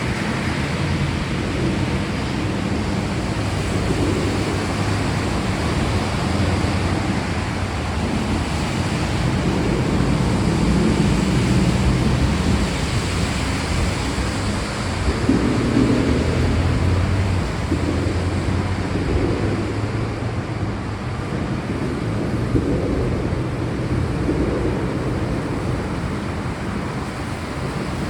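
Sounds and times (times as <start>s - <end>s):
heavy rain hissing: 0.0s - 28.0s
low rumble: 0.0s - 28.0s.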